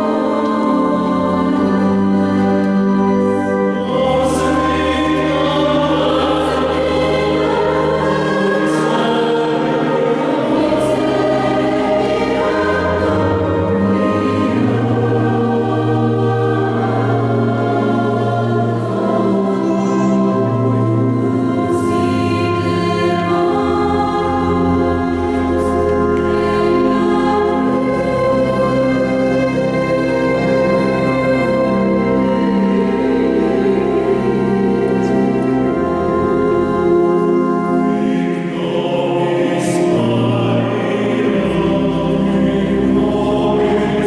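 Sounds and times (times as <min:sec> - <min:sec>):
choir singing: 0:00.0 - 0:44.0
organ bass notes: 0:00.0 - 0:44.0.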